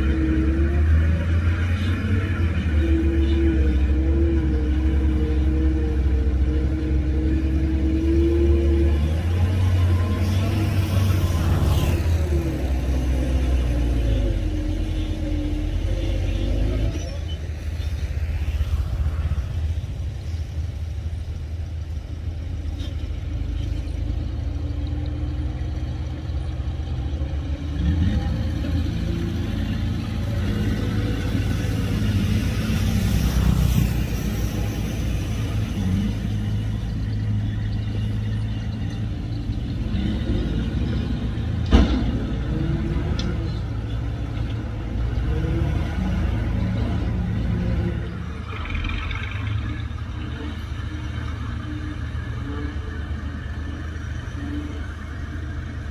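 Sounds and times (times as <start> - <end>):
heavy diesel engines rumbling: 0.0 - 55.9.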